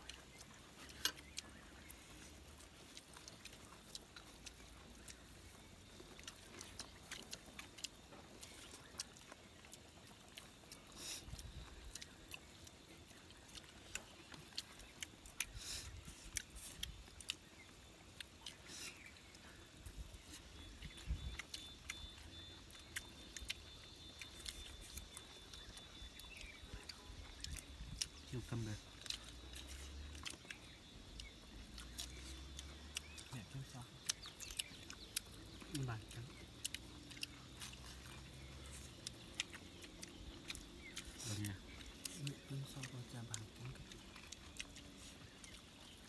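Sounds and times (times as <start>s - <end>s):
clicking and smacking eating sounds: 0.0s - 46.0s
people chewing food: 0.0s - 46.0s.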